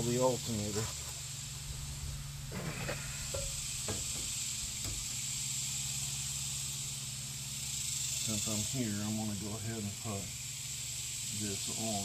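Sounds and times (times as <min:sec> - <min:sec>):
low steady hum: 0:00.0 - 0:12.0
steady high hiss: 0:00.0 - 0:12.0.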